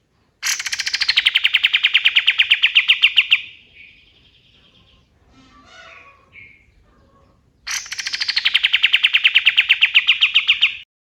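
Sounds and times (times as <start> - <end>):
soft bird chirps: 0.0 - 10.9
bird rapid trill: 0.4 - 10.8.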